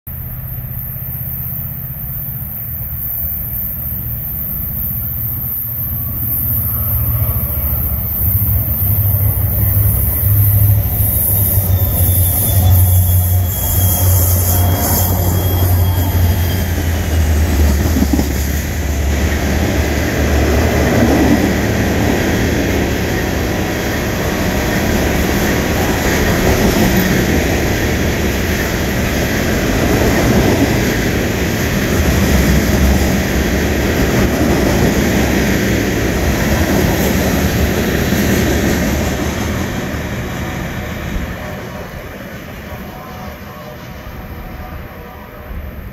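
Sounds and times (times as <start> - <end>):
diesel locomotive engine drone: 0.1 - 45.9
train wheels rumbling on rails: 0.1 - 45.9.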